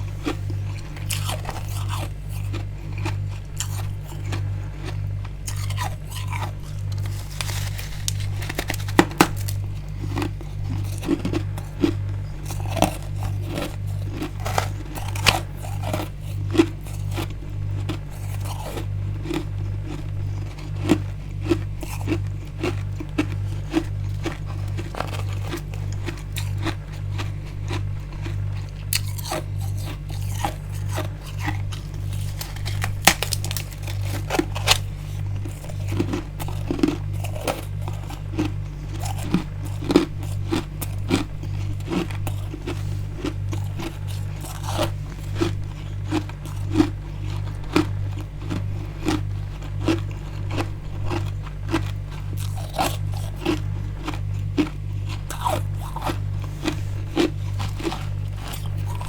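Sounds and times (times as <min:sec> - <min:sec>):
frost being chewed: 0:00.0 - 0:59.0
low pulsing hum: 0:00.0 - 0:59.0.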